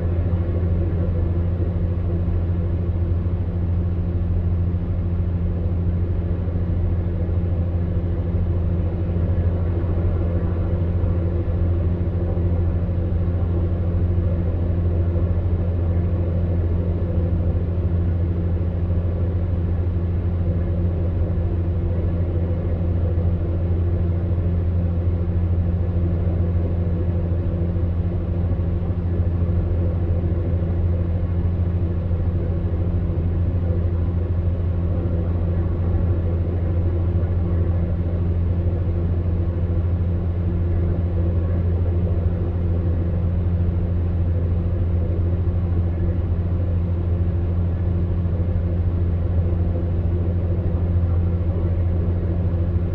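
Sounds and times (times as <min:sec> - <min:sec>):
fan heater humming and blowing: 0:00.0 - 0:52.9.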